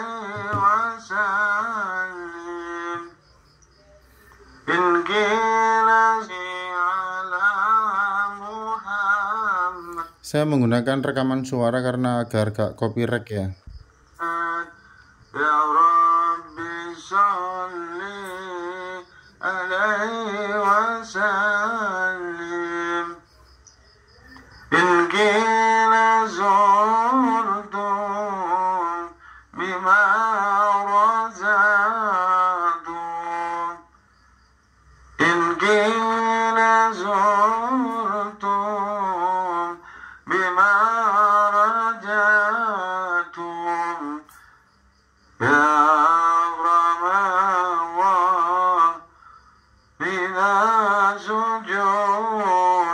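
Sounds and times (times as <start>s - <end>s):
recorded singing over loudspeaker: 0.0s - 34.0s, 34.9s - 44.6s, 45.3s - 49.2s, 49.9s - 52.9s.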